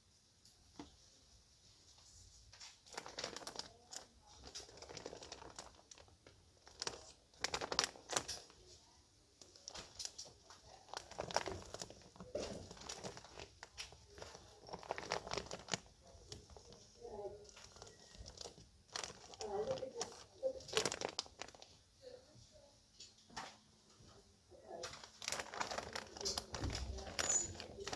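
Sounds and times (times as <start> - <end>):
plastic bags crinkling: 2.1 - 21.9, 24.6 - 27.9.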